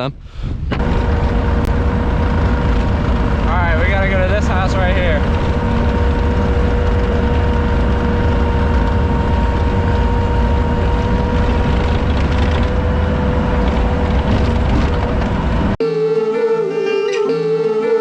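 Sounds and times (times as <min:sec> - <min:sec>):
truck engine rumbling: 0:00.0 - 0:15.8
steady hum: 0:00.6 - 0:15.8.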